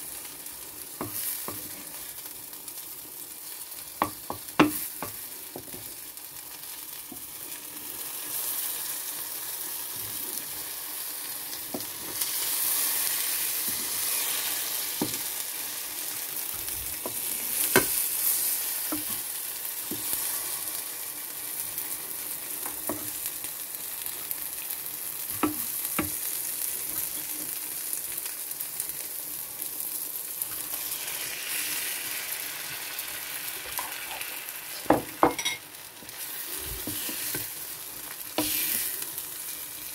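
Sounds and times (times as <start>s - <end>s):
omelette sizzling in a frying pan: 0.0s - 39.9s.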